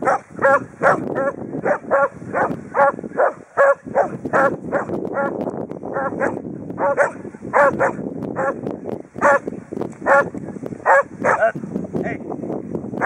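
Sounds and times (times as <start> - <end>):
dogs barking: 0.0 - 8.6, 9.2 - 11.6.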